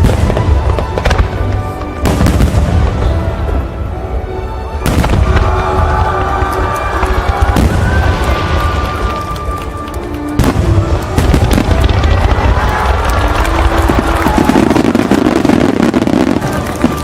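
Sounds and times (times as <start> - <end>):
fireworks booming and crackling: 0.0 - 3.8, 4.8 - 17.0
music playing: 0.0 - 17.0.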